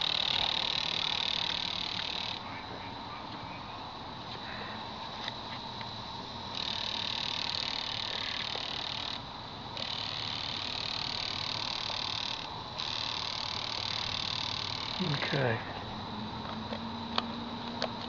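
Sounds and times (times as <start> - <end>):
fuel injectors hissing buzz: 0.0 - 18.0.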